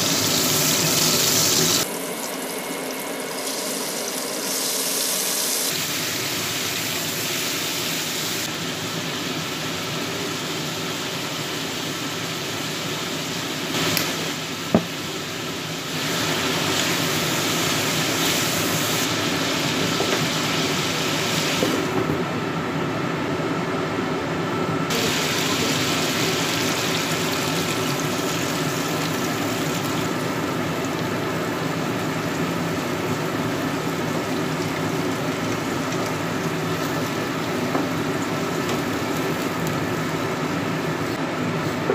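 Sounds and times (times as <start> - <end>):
pork sizzling in oil: 0.0 - 22.0, 24.9 - 41.2.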